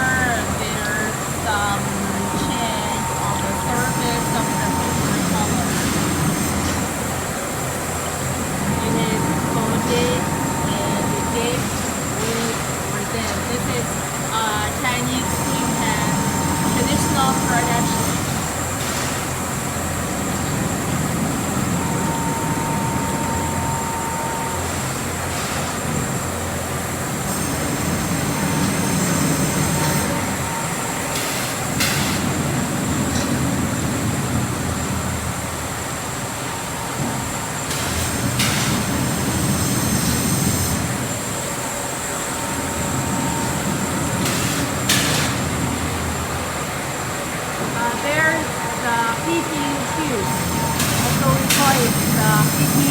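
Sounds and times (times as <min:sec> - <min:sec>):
production machinery rumbling: 0:00.0 - 0:52.9.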